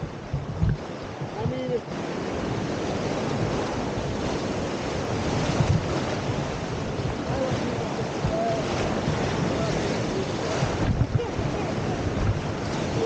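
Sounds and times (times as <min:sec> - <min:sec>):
whitewater rushing: 0:00.0 - 0:13.0
wind buffeting microphone: 0:00.0 - 0:13.0.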